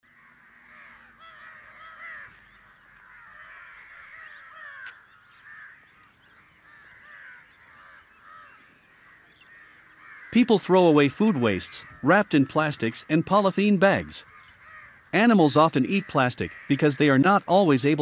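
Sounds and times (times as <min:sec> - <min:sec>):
crows cawing: 0:00.0 - 0:18.0.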